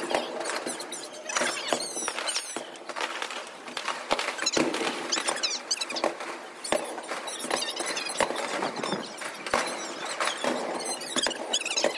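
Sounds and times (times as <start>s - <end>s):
fireworks bangs and pops: 0.0s - 11.9s
fireworks crackle: 0.0s - 11.9s
high-pitched squeaky chirps: 0.2s - 2.7s, 4.3s - 11.9s.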